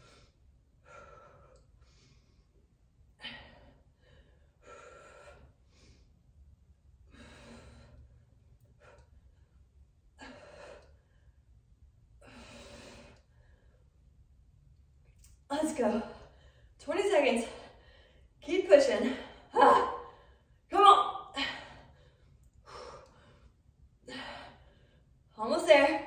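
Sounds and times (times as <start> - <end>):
woman breathing heavily: 0.0 - 14.2, 15.6 - 26.0.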